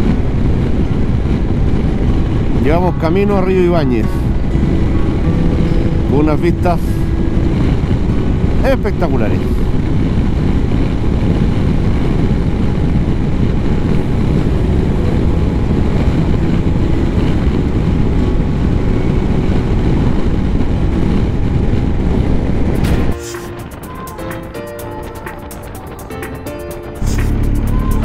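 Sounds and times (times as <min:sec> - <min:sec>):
motorcycle engine cruising: 0:00.0 - 0:28.0
wind buffeting microphone: 0:00.0 - 0:28.0.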